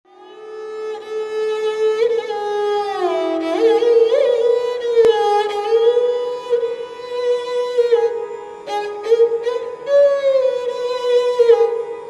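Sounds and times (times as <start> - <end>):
bowed string instrument melody: 0.1 - 12.0.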